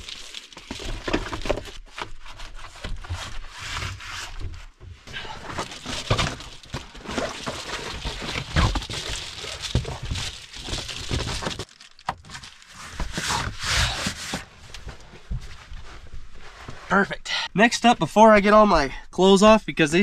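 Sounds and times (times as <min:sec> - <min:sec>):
rustling and rubbing covers: 0:00.0 - 0:11.7, 0:12.5 - 0:17.0.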